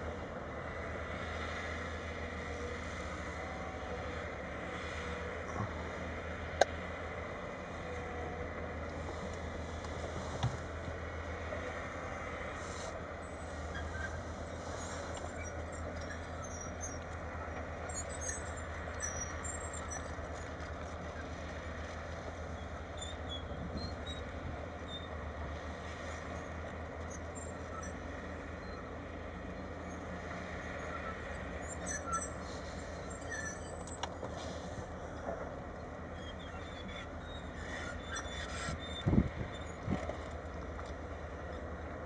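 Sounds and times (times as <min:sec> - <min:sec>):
excavator diesel engine droning: 0:00.0 - 0:42.0.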